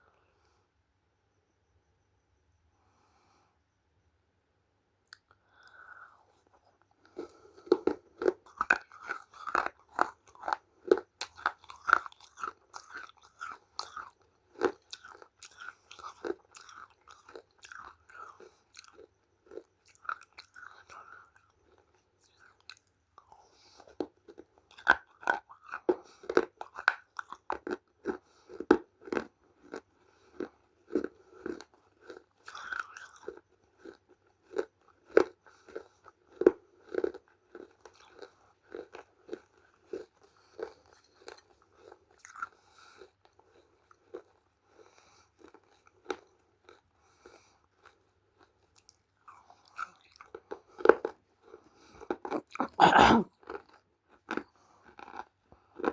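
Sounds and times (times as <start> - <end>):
person chewing crunchy clay: 5.0 - 55.9.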